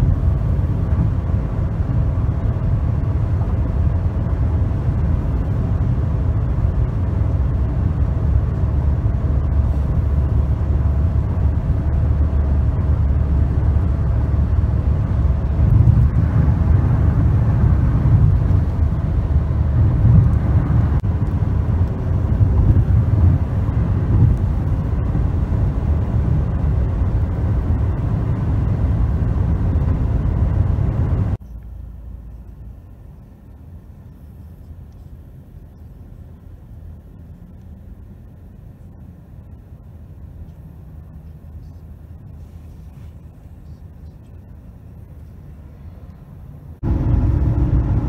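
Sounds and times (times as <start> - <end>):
road and engine rumble in car: 0.0 - 48.0.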